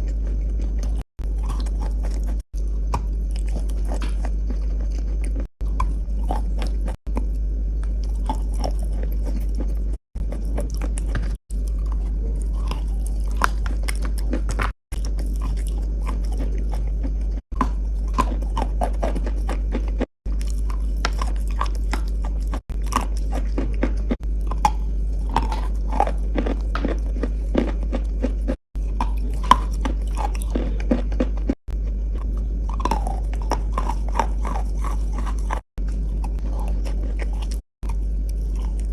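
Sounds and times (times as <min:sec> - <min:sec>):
chewing crunchy pieces: 0:00.0 - 0:38.9
steady low hum: 0:00.0 - 0:38.9.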